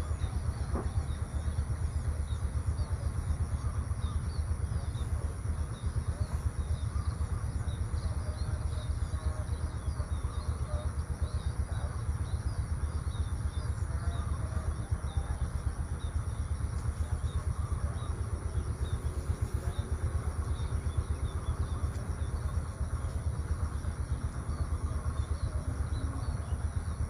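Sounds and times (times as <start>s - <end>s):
small birds chirping: 0.0s - 27.0s
steady low rumble: 0.0s - 27.0s.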